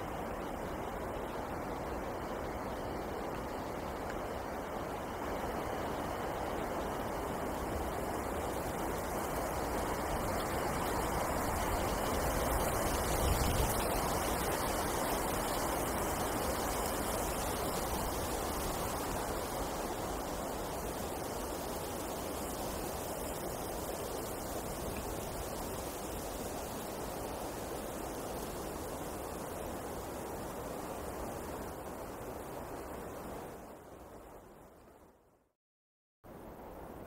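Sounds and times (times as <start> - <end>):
wind rushing through forest: 0.0 - 35.5, 36.2 - 37.0.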